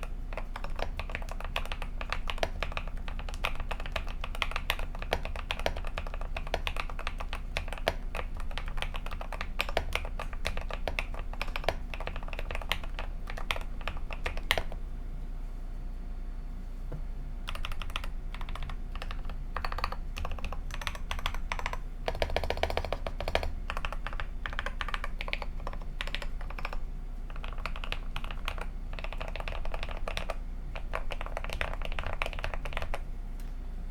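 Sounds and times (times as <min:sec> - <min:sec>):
mechanical keyboard typing: 0:00.0 - 0:14.8, 0:17.5 - 0:33.0.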